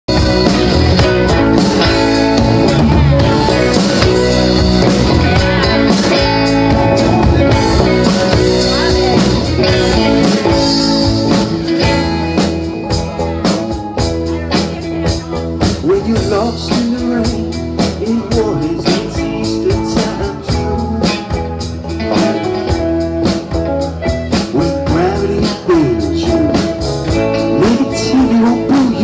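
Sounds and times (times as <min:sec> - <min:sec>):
drum kit: 0:00.1 - 0:29.0
electric bass: 0:00.1 - 0:29.0
electric guitars: 0:00.1 - 0:29.0
keyboard: 0:00.1 - 0:29.0
sliding guitar notes: 0:00.1 - 0:29.0.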